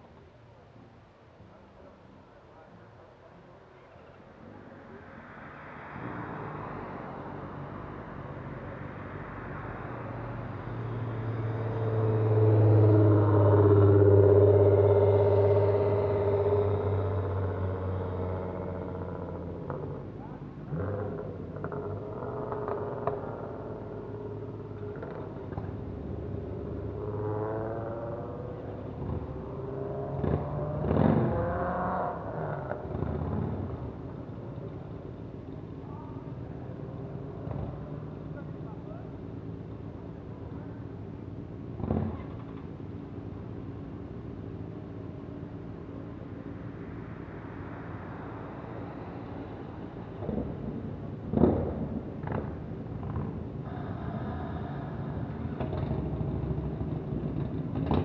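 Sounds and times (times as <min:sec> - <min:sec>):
vehicles passing on road: 0:00.0 - 0:58.0.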